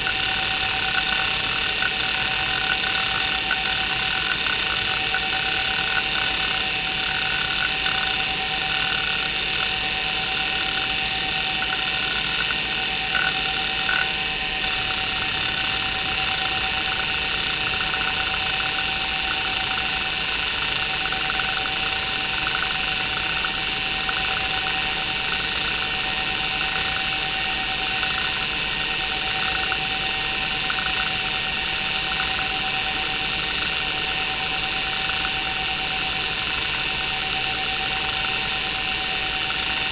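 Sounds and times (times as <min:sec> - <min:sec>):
hard drive heads ticking: 0:00.0 - 0:39.9
hard drive whine: 0:00.0 - 0:39.9.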